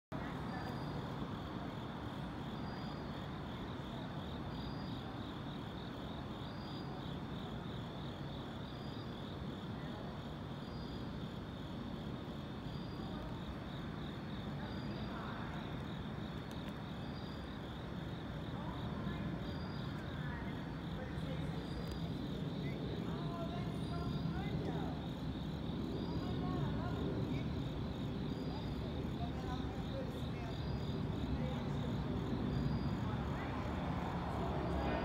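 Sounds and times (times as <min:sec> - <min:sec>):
crickets chirping: 0:00.1 - 0:35.0.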